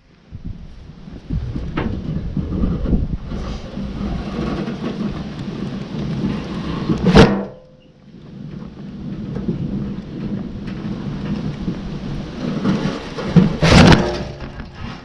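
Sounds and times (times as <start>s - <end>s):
wheelbarrow rumbling and rattling: 0.4s - 15.0s.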